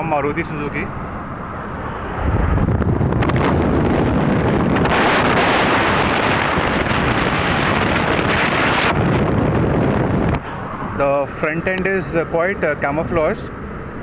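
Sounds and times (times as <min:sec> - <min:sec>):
wind rushing over microphone: 0:00.0 - 0:13.3
road noise: 0:00.0 - 0:14.0.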